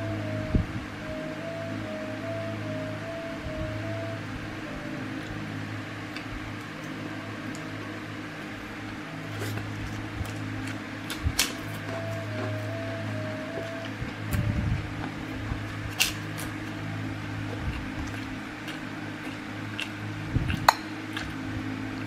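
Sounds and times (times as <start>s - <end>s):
faint melody: 0.0s - 20.4s
steady low hum: 0.0s - 22.0s.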